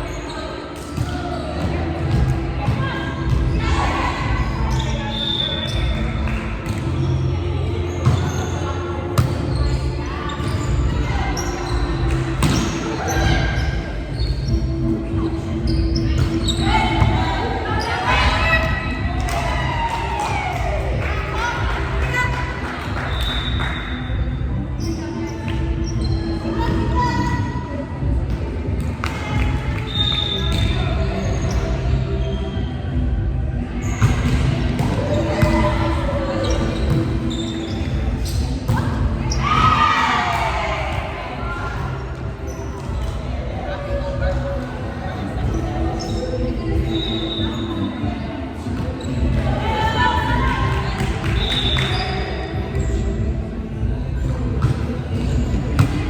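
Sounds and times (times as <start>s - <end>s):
players' voices: 0.0s - 56.0s
court noise: 0.1s - 24.2s, 24.8s - 32.8s, 33.8s - 56.0s.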